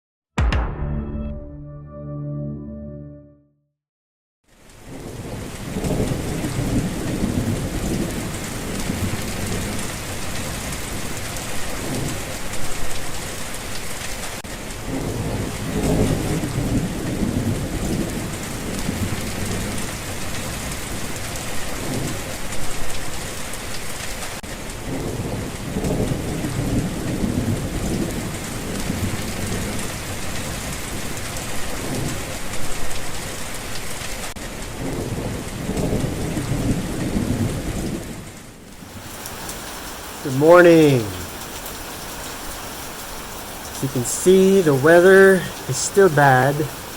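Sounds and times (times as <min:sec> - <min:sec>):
heavy rain falling: 0:04.6 - 0:46.9.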